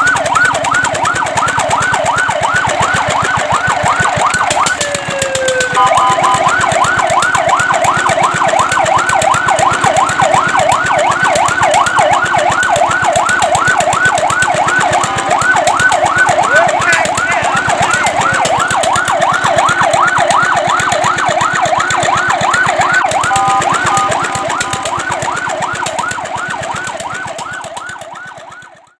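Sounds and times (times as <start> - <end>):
short steady siren tones: 0.0 - 29.0
siren yelping: 0.0 - 29.0.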